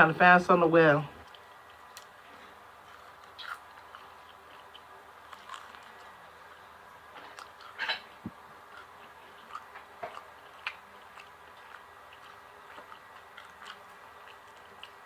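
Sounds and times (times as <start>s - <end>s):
person chewing food: 1.2s - 15.0s.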